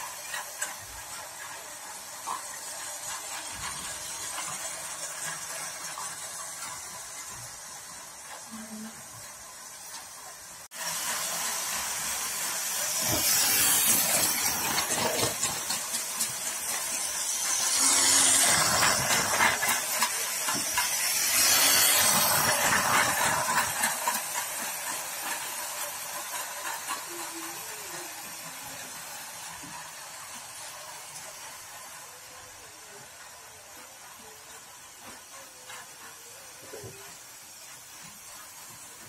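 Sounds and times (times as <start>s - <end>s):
toy train rattling on track: 0.0s - 39.0s.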